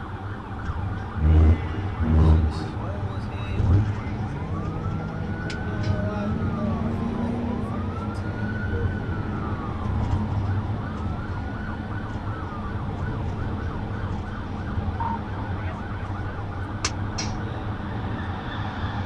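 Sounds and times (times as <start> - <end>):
car engine hum and road noise: 0.0 - 19.0
police siren wailing and yelping: 0.0 - 19.0.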